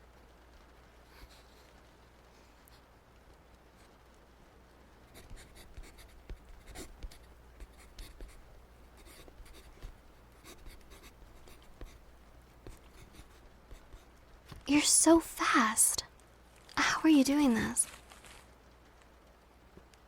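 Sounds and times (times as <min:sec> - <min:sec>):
faint steady background noise: 0:00.0 - 0:20.0.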